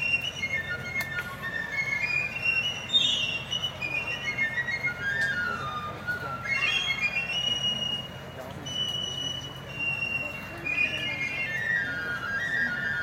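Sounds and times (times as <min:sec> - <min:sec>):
piccolos playing quick runs: 0:00.0 - 0:13.0.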